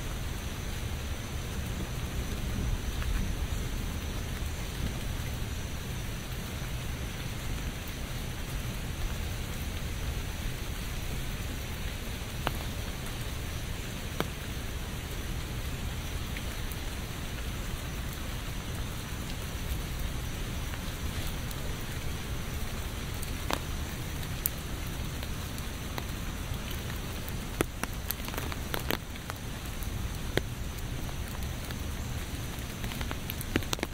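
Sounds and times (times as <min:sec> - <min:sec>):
heavy raindrops ticking: 0:00.0 - 0:33.9
steady rain falling: 0:00.0 - 0:33.9.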